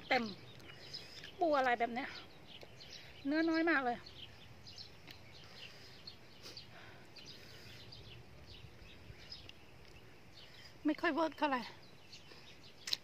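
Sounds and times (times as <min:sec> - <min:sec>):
outdoor background noise: 0:00.0 - 0:13.0
small birds chirping: 0:00.0 - 0:13.0.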